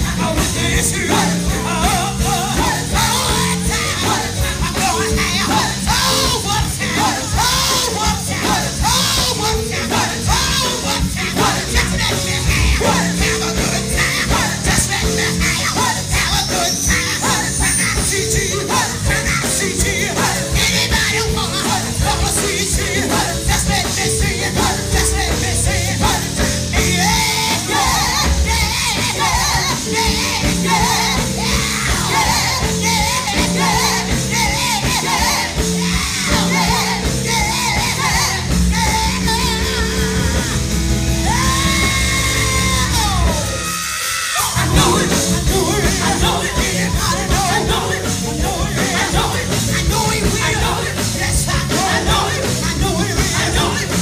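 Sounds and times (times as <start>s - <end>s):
band with drums and keyboard: 0.0s - 54.0s
women singing gospel: 0.0s - 54.0s.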